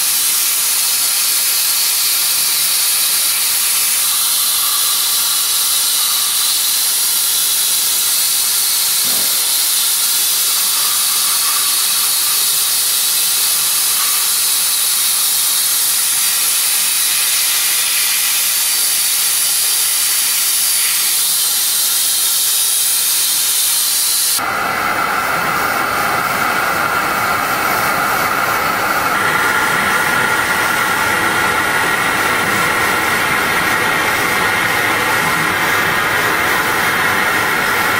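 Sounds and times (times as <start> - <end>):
sandblaster hissing: 0.0 - 37.9.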